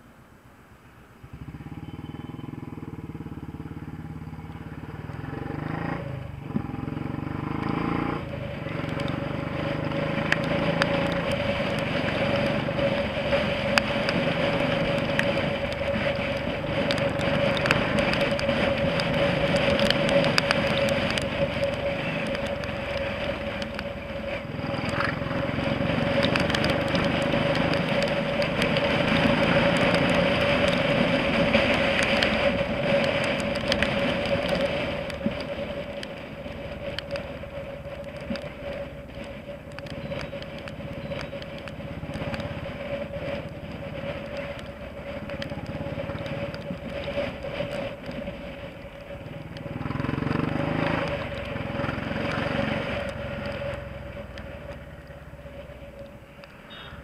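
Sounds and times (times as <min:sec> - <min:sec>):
motorcycle engine: 0:01.2 - 0:57.0
wind noise: 0:05.2 - 0:57.0.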